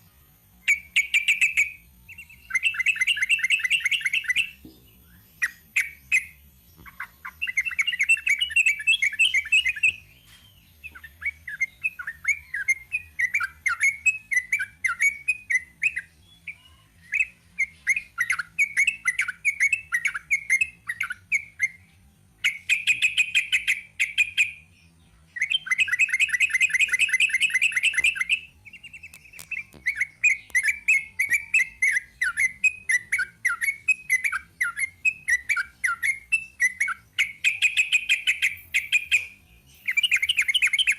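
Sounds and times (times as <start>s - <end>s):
bird singing chattering notes: 0.6s - 21.8s, 22.4s - 24.7s, 25.4s - 40.9s.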